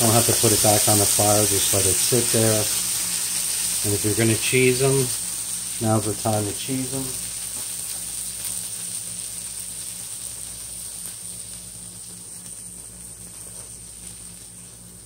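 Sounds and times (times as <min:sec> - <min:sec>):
burgers sizzling in a pan: 0:00.0 - 0:15.0.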